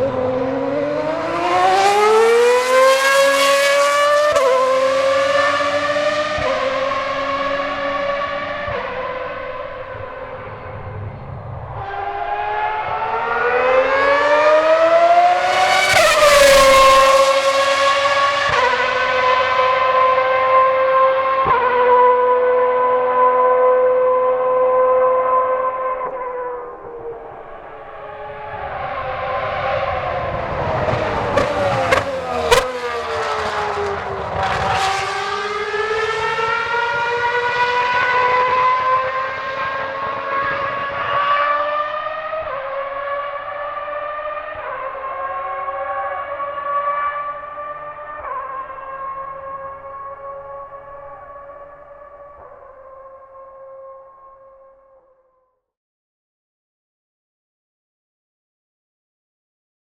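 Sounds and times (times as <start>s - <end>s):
racing car engine at full throttle: 0.0s - 54.5s.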